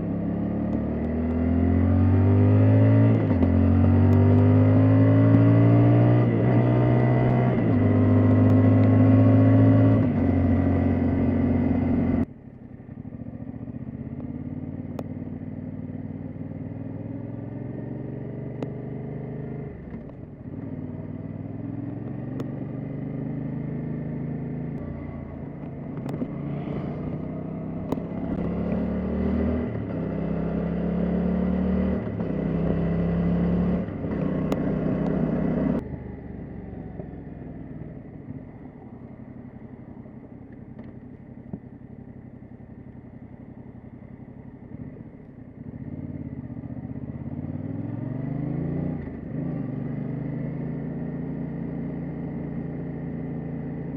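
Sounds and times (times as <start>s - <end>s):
motorcycle engine shifting gears: 0.0s - 12.3s, 13.0s - 53.9s.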